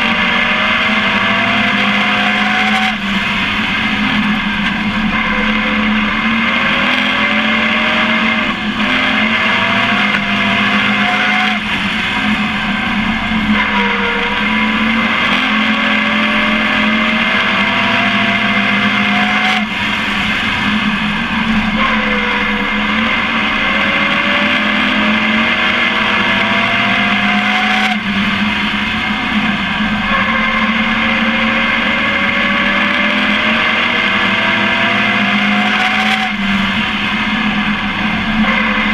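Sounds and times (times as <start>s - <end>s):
race truck engine accelerating: 0.0s - 38.9s
road drone: 0.0s - 38.9s.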